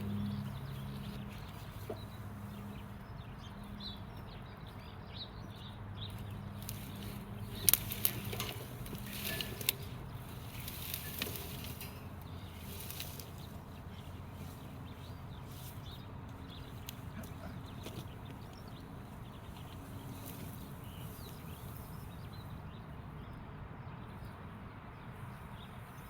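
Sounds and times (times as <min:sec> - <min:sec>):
low machine hum: 0:00.0 - 0:23.3.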